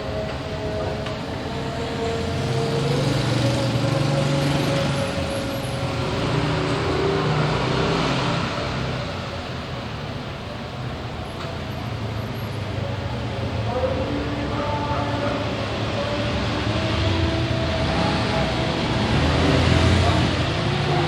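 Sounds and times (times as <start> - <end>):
passing vehicle engines humming: 0.0 - 21.0.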